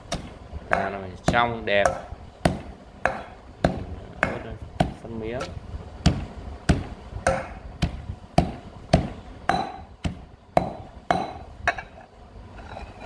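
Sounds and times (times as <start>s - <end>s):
pestle pounding in metal mortar: 0.0s - 12.0s.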